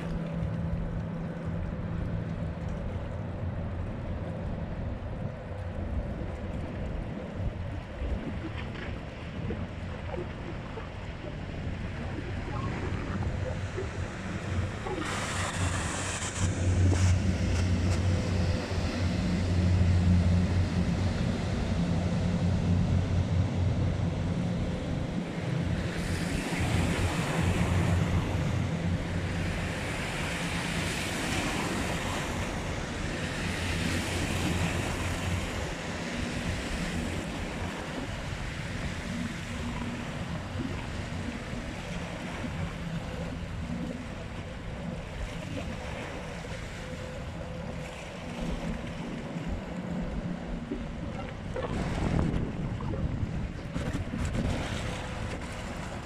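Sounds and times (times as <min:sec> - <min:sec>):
ship engine drone: 0:00.0 - 0:56.0
water washing and lapping: 0:00.0 - 0:56.0
wind buffeting microphone: 0:00.0 - 0:56.0.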